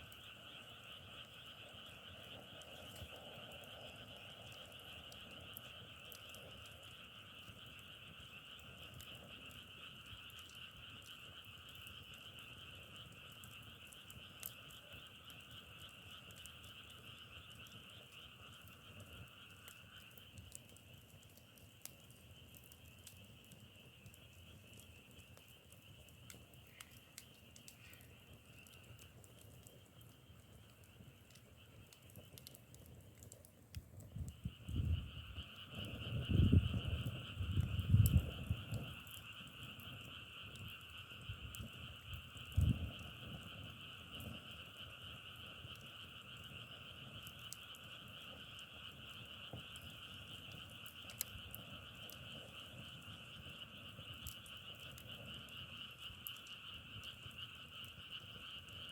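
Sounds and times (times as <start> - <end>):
frogs calling: 0.1 - 58.9
faint clicks: 2.3 - 58.9.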